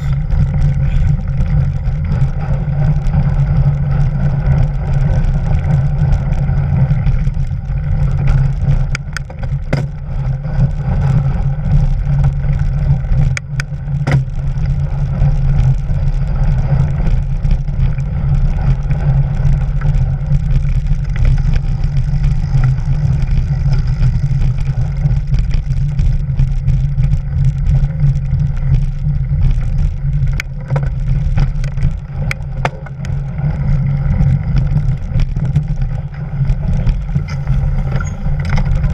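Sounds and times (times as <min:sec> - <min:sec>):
bike knocking over bumps: 0:00.0 - 0:38.9
bike tyre rumble: 0:00.0 - 0:38.9
wind noise: 0:00.0 - 0:38.9.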